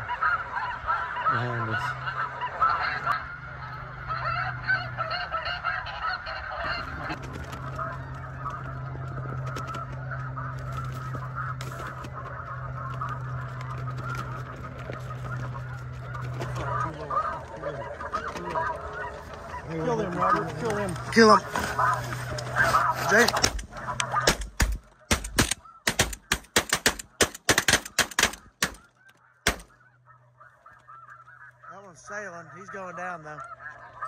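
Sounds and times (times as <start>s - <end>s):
steady low hum: 0.0s - 32.8s
geese honking: 0.0s - 34.0s.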